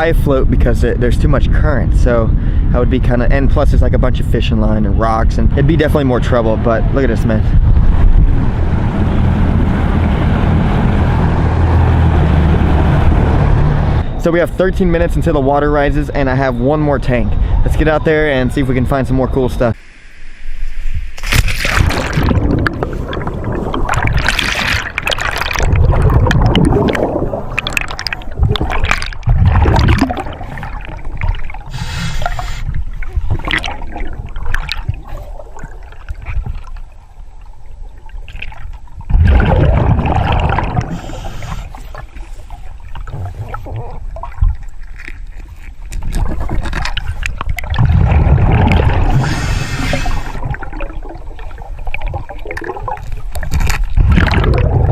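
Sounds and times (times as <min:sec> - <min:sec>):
water gurgling and sloshing: 0:00.0 - 0:54.9.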